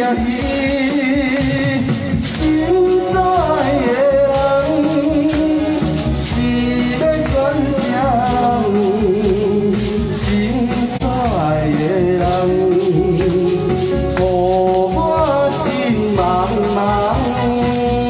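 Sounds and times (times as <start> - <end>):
backing music with steady beat: 0.0 - 18.0
man singing into microphone: 0.0 - 18.0.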